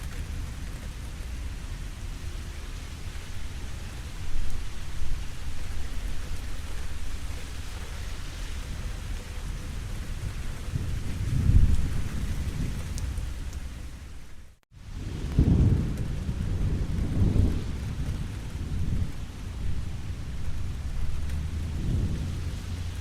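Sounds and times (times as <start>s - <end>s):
low rolling thunder: 0.0s - 23.0s
steady rain falling: 0.0s - 23.0s.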